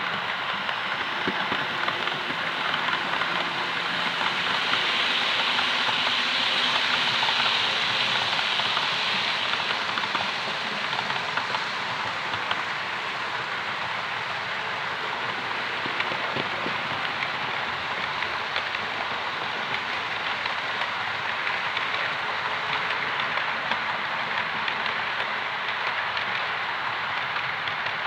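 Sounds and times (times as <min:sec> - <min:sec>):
model train wheels rattling on rail: 0:00.0 - 0:28.0.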